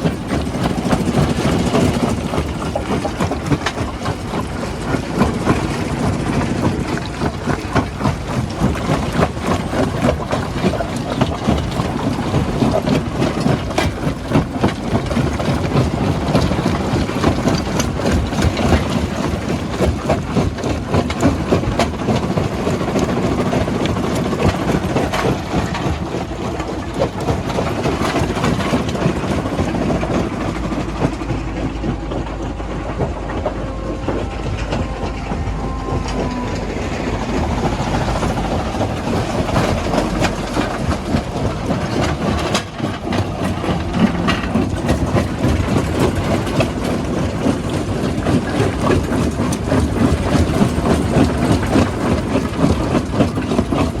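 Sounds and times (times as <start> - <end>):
low engine drone: 0.0 - 54.0
rock and steel clattering: 0.0 - 54.0.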